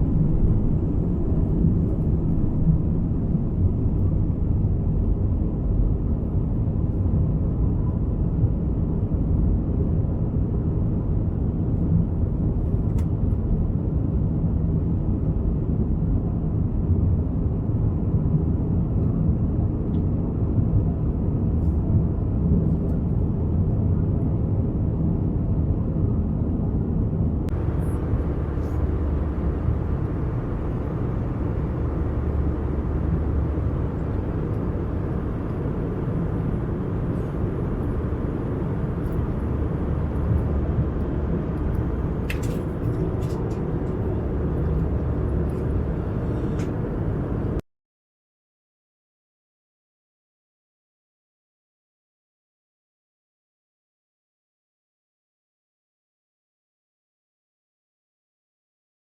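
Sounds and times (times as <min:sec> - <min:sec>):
aircraft cabin engine rumble: 0:00.0 - 0:47.6.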